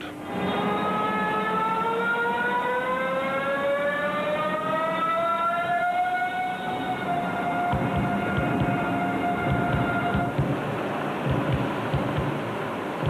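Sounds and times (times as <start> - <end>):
electric train drive whining: 0.0 - 13.0.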